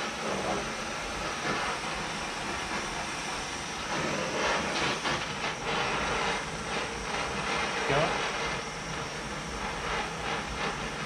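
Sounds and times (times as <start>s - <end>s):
cutting torch flame hissing: 0.0s - 11.0s.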